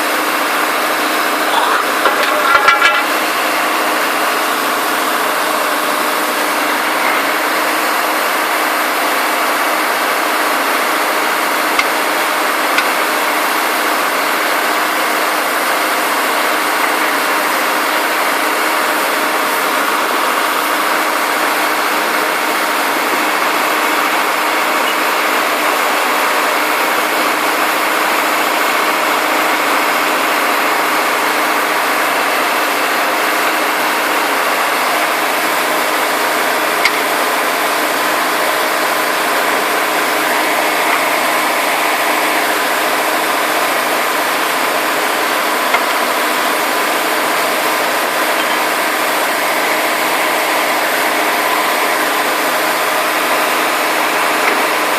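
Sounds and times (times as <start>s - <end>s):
drill rig machinery running: 0.0s - 54.9s.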